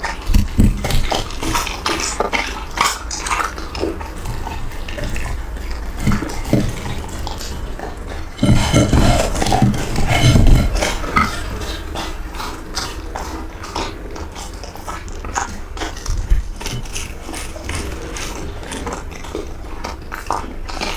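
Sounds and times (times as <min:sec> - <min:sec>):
dog eating from a bowl: 0:00.0 - 0:20.9.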